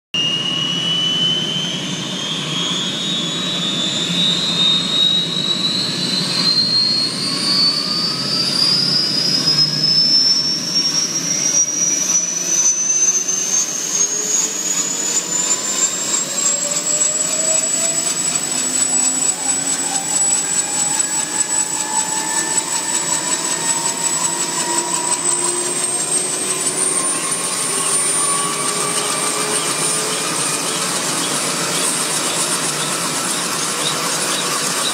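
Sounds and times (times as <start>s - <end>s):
helicopter engine spooling up: 0.2s - 34.9s.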